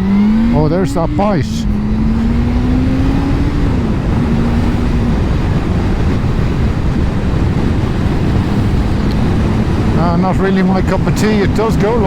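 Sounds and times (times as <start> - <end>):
motorcycle engine accelerating: 0.0 - 12.0
wind rush: 0.0 - 12.0.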